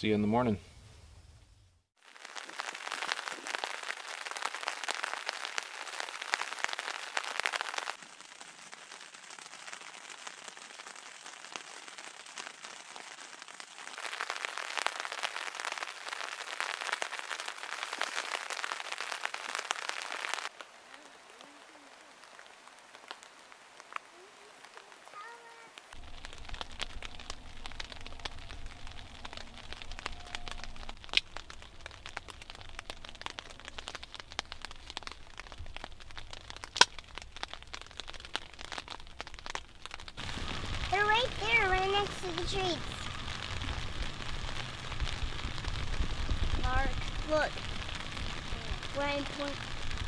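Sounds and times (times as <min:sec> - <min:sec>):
steady rain falling: 0:01.9 - 0:50.0.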